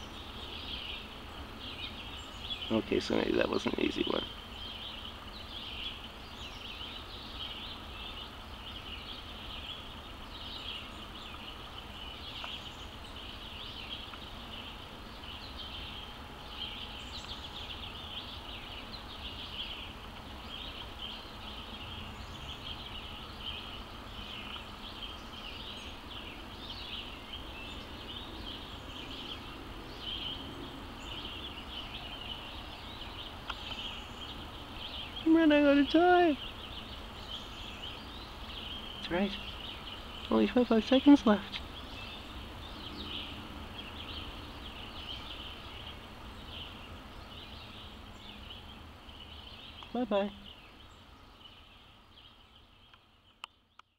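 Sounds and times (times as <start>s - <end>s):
low background hum: 0.0s - 53.8s.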